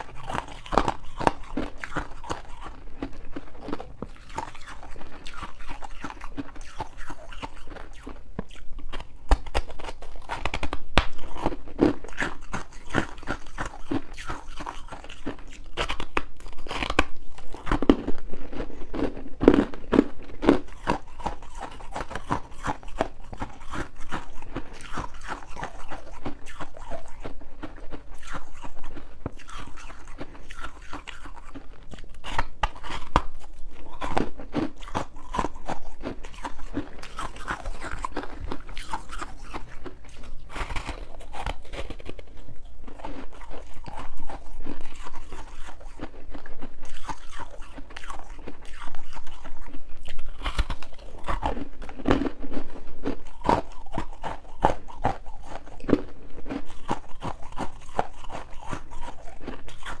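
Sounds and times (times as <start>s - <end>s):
ice crunching being chewed: 0.0s - 60.0s.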